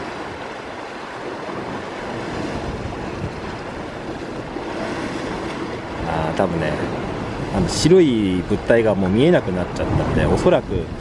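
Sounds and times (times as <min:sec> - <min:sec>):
waves on rocky shore: 0:00.0 - 0:11.0
wind buffeting microphone: 0:00.0 - 0:11.0.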